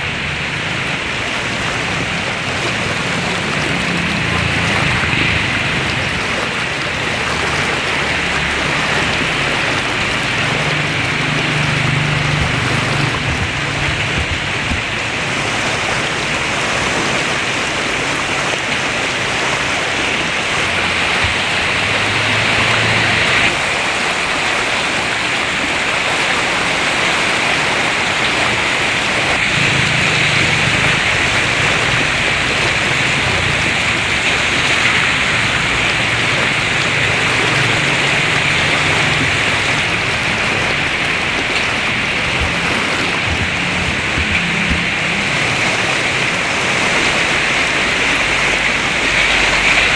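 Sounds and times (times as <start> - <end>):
heavy rain pouring: 0.0 - 49.9
low rumbles: 0.0 - 49.9.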